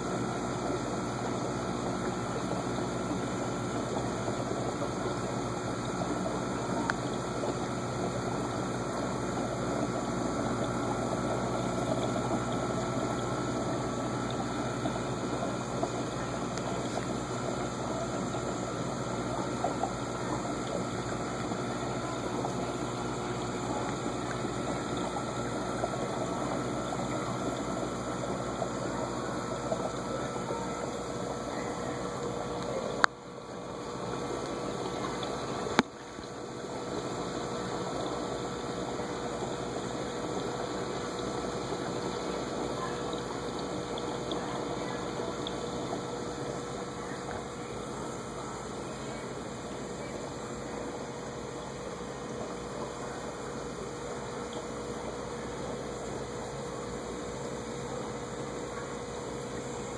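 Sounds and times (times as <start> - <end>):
aquarium filter pump running: 0.0 - 59.9
water flowing: 0.0 - 59.9.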